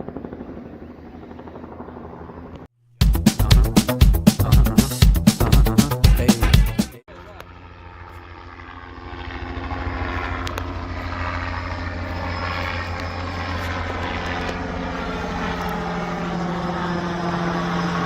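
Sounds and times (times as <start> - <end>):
helicopter rotor chop overhead: 0.0 - 2.7, 6.0 - 18.0.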